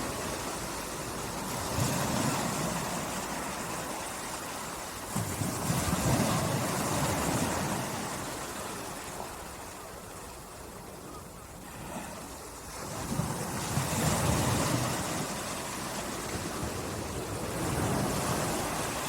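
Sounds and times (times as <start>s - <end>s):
waves lapping on a beach: 0.0s - 19.0s.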